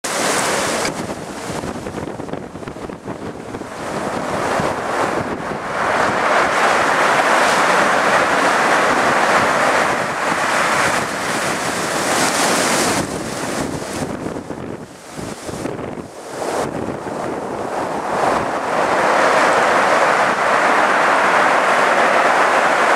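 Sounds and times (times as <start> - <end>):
sea waves breaking: 0.0 - 22.9
wind buffeting microphone: 0.1 - 22.9.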